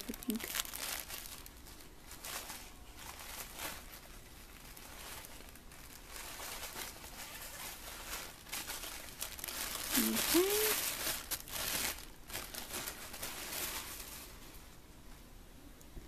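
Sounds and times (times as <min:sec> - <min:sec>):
tissue paper rustling: 0:00.0 - 0:14.7
low steady hum: 0:00.0 - 0:16.0.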